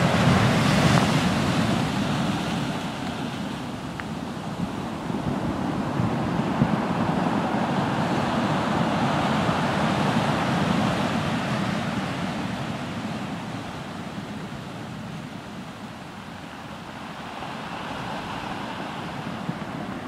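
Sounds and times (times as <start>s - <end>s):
surf washing over boulders: 0.0s - 20.0s.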